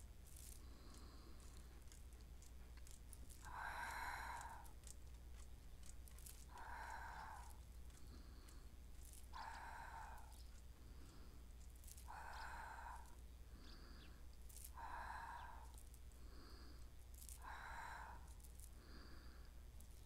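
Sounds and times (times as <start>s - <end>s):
low steady hum: 0.0s - 20.0s
woman breathing: 0.4s - 2.0s, 2.8s - 5.4s, 6.3s - 20.0s.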